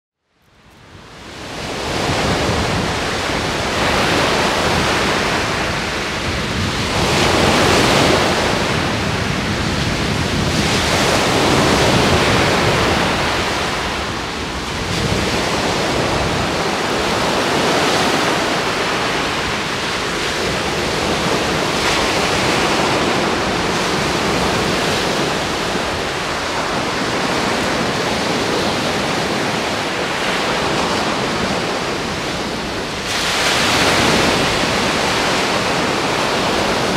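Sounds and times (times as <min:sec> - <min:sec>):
waves breaking on a beach: 0:00.6 - 0:36.9.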